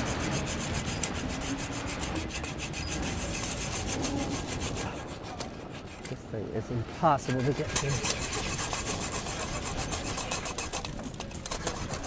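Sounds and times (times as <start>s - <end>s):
hand saw rasping on metal lock: 0.0s - 6.1s, 7.2s - 12.0s.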